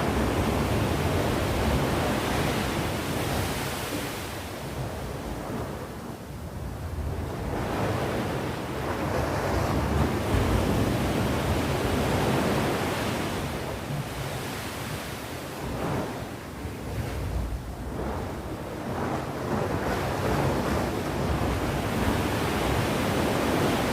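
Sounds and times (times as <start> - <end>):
sea waves washing ashore: 0.0 - 23.9.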